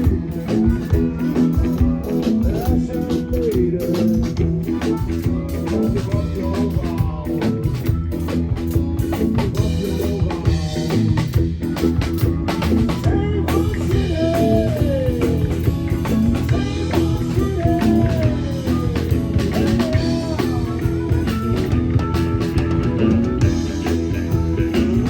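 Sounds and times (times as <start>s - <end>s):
bass guitar: 0.0s - 25.0s
drums: 0.0s - 25.0s
electric guitar bending notes: 0.0s - 25.0s.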